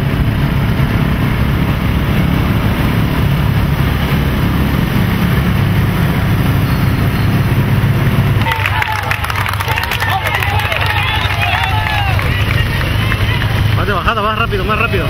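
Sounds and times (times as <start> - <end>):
road and wind noise: 0.0 - 15.0
vehicle engine droning: 0.0 - 15.0.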